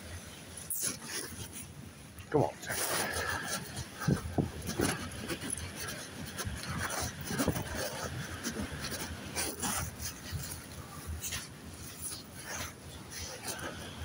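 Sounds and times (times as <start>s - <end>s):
rustling: 0.3s - 14.0s.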